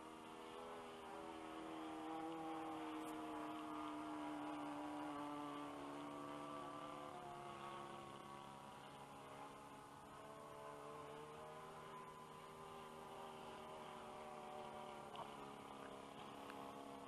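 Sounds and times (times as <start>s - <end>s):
model plane engine drone: 0.0s - 17.0s.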